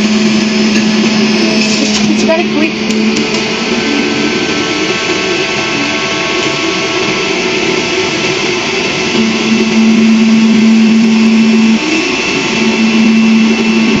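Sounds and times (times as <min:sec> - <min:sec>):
deeper hum: 0:00.0 - 0:14.0
juicer motor whining: 0:00.0 - 0:14.0.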